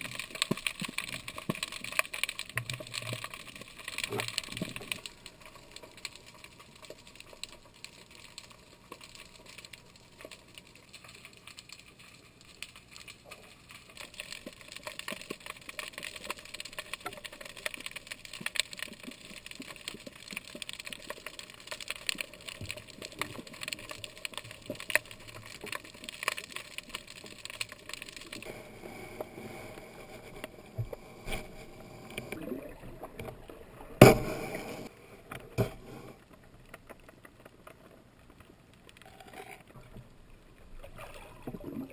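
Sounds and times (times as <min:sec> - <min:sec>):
underwater crackle and water noise: 0:00.0 - 0:41.9.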